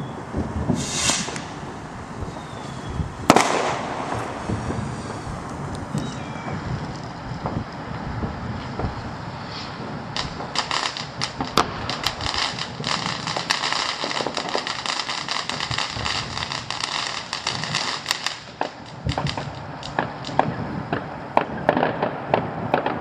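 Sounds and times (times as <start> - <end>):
fireworks crackling: 0.0 - 23.0
sharp firework cracks: 0.0 - 23.0.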